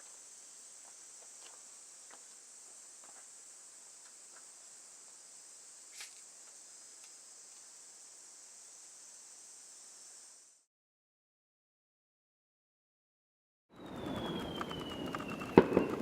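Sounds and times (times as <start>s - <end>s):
night insects chorus: 0.0s - 10.7s, 13.8s - 16.0s.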